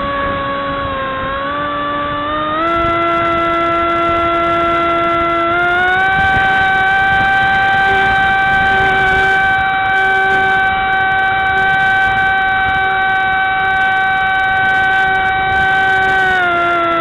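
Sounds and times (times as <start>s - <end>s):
model aeroplane motor whine: 0.0s - 17.0s.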